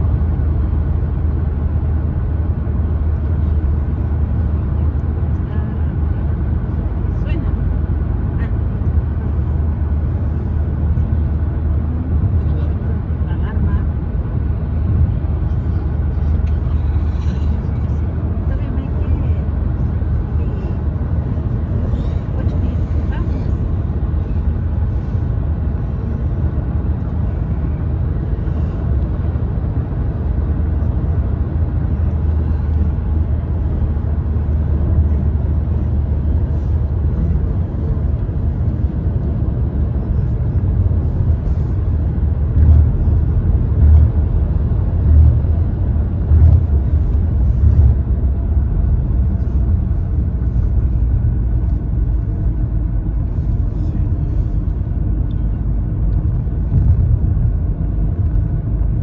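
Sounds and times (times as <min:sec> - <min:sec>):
car road noise rumble: 0:00.0 - 0:59.0.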